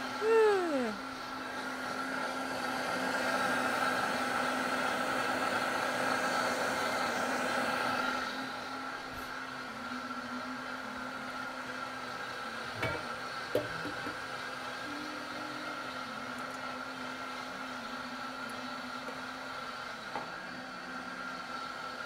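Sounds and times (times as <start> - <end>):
blender motor running on high: 0.0 - 22.0.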